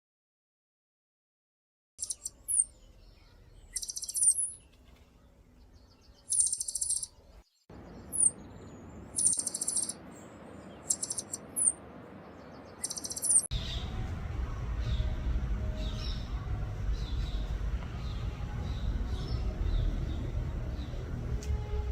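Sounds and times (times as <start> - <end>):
small birds singing trills: 2.0 - 14.1, 14.7 - 21.5.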